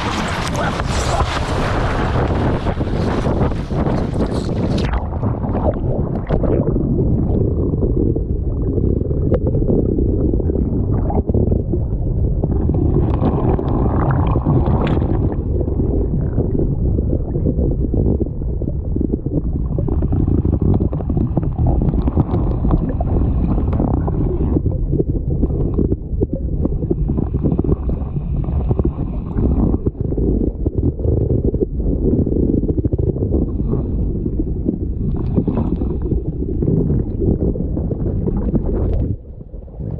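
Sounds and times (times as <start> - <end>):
deep continuous rumble: 0.0 - 39.9
muffled underwater sloshing: 0.0 - 39.9
wind and splash: 0.0 - 39.9.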